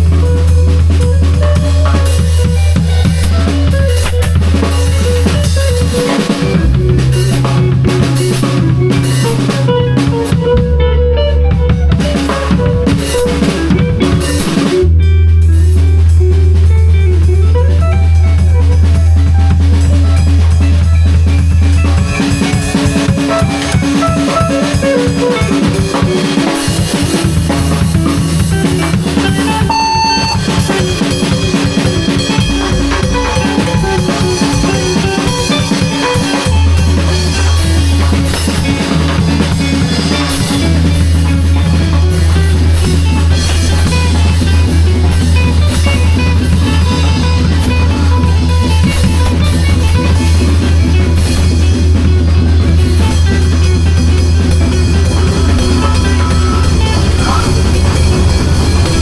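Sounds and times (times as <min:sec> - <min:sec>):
drum kit groove: 0:00.0 - 0:59.0
live band playing: 0:00.0 - 0:59.0
sustained bass notes: 0:00.0 - 0:59.0.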